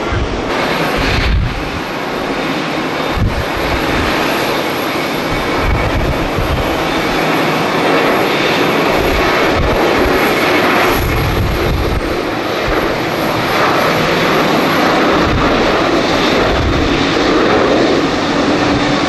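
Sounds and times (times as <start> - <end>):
jet engines running: 0.0 - 19.0
wind buffeting microphone: 0.0 - 19.0.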